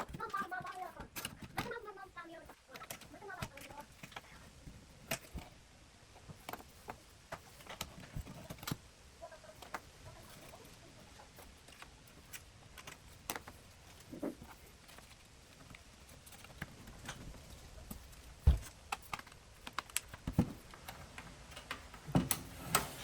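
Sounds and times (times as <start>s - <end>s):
plastic parts clicking and tapping: 0.0s - 22.9s.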